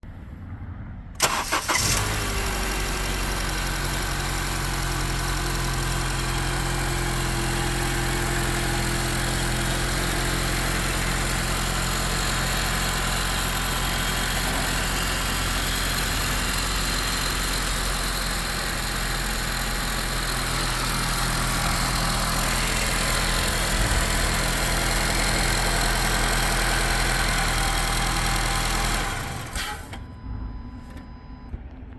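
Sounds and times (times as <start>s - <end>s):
car engine starting and idling: 1.1s - 31.9s.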